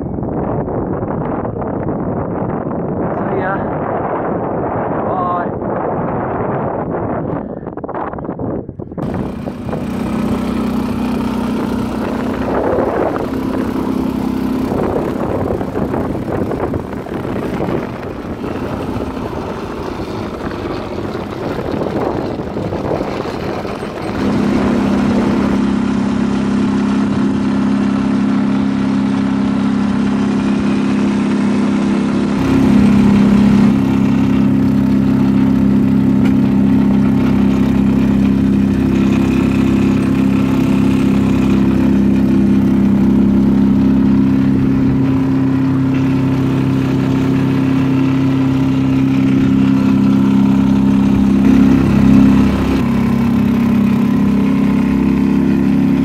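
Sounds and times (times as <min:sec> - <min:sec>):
outboard motor running: 0:08.9 - 0:56.0.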